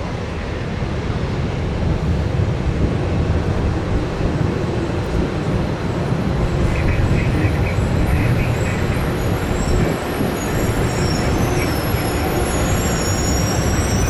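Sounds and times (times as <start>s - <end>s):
jet engines deep rumble: 0.0s - 14.0s.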